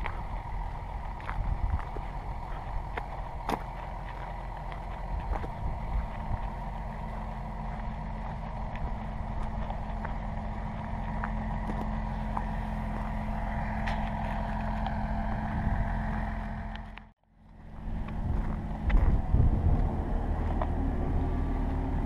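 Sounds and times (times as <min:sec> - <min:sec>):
gravel crackling under tyres: 0:00.0 - 0:22.0
motorcycle engine running: 0:00.0 - 0:22.0.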